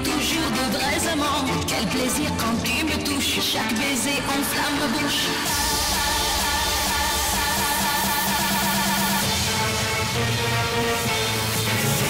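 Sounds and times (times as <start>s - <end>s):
electronic music with high melody: 0.0s - 12.0s.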